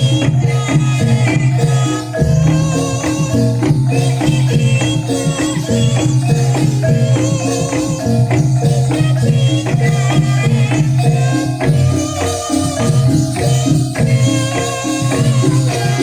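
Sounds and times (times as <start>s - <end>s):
jingling rattle percussion: 0.0s - 16.0s
metal-keyed instruments: 0.0s - 16.0s.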